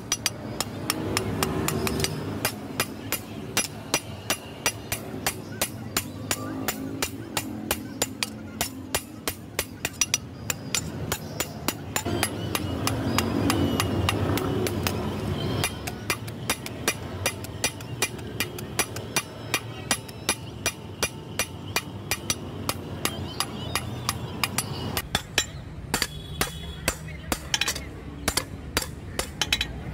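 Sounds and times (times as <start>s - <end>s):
hammer striking metal on anvil: 0.0s - 29.9s.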